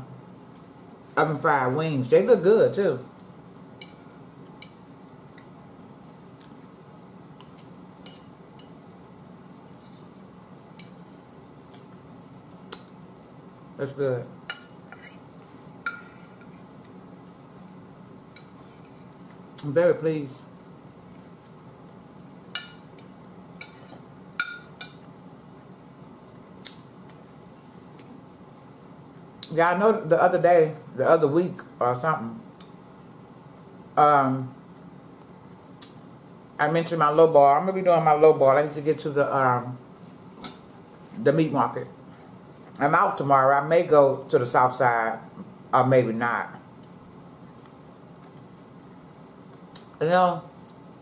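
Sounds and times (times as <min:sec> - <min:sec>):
low background hum: 0:00.0 - 0:51.0.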